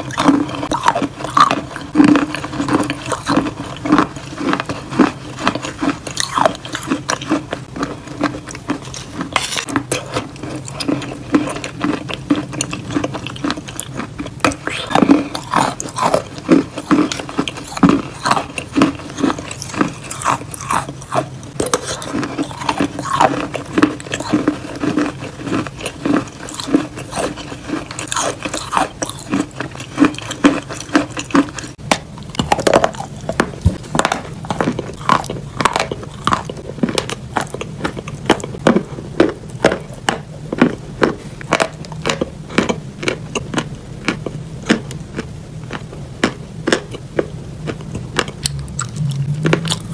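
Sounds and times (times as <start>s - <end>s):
chewing and mouth clicks: 0.0s - 49.9s.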